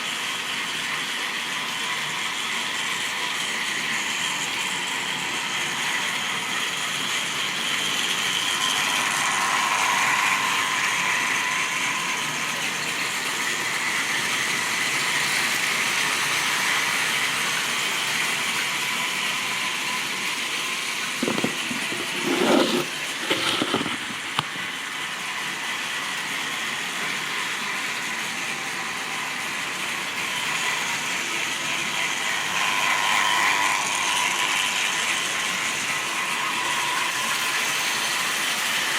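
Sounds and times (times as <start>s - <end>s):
model train motor whirring: 0.0s - 38.9s.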